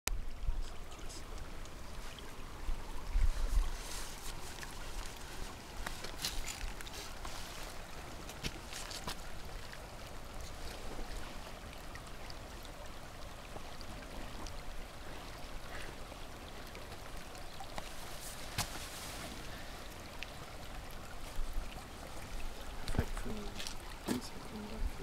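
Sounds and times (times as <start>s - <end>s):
water trickling over gravel: 0.1s - 25.0s.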